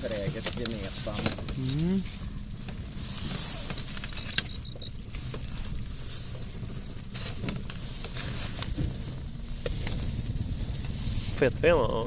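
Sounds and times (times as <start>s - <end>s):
boat motor running at low revs: 0.5s - 12.0s.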